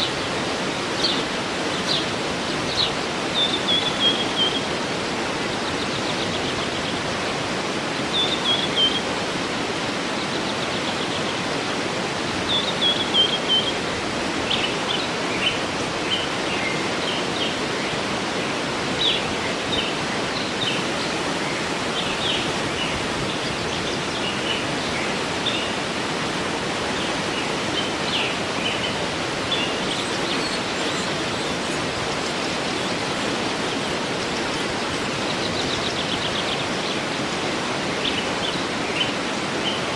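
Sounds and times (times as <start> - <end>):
birds singing: 0.0 - 39.9
waterfall rushing: 0.0 - 39.9.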